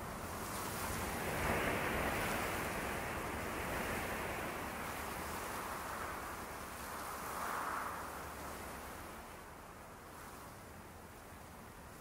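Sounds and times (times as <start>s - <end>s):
wind whooshing in forest: 0.5s - 11.2s.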